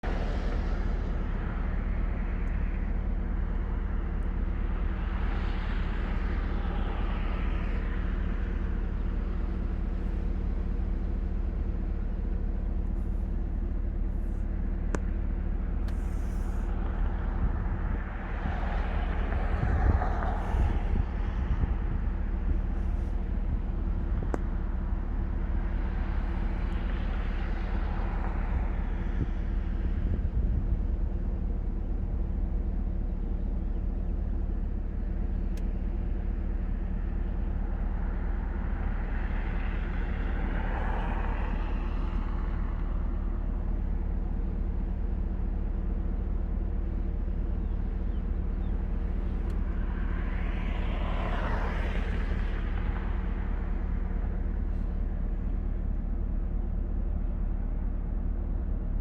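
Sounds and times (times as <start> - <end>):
layered low drone: 0.0 - 59.0.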